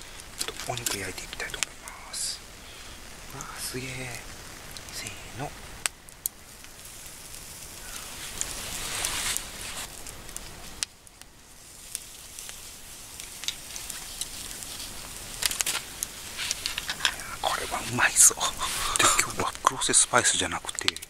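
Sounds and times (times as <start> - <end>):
pops and crackles: 0.0 - 21.0
steak sizzling on grill: 0.0 - 21.0.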